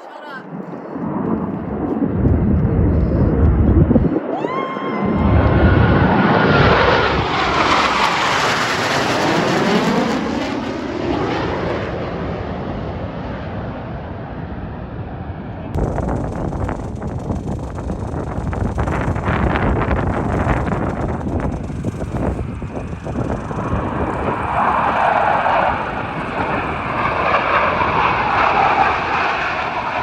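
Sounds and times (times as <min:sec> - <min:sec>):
jet flyby roar: 0:00.0 - 0:30.0
rising jet whine: 0:00.5 - 0:30.0.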